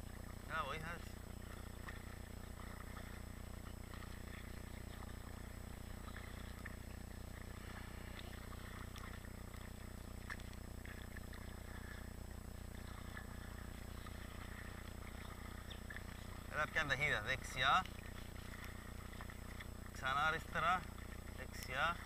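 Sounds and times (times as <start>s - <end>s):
paddle splashing in water: 0.0s - 22.0s
steady low hum: 0.0s - 22.0s.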